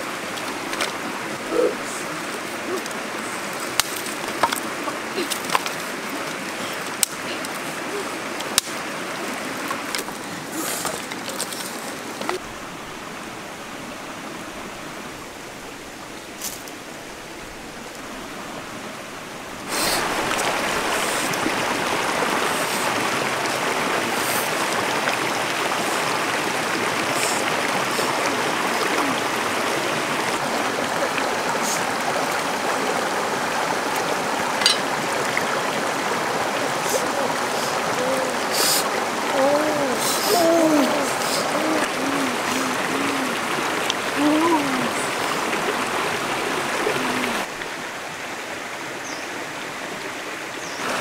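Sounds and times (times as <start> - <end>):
river water running over stones: 0.0 - 51.0.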